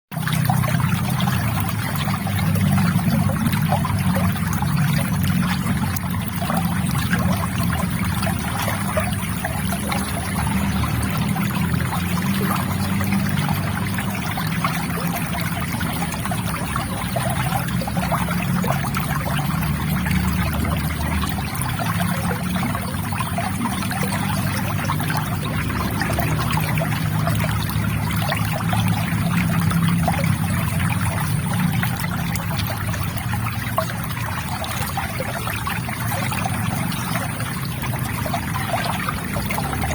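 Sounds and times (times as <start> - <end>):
river water trickling: 0.1 - 39.9.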